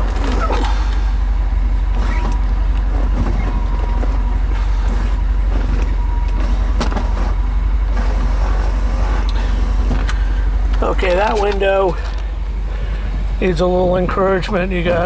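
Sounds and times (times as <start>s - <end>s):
power window motor whining: 0.0s - 12.3s
car engine idling: 0.0s - 15.0s.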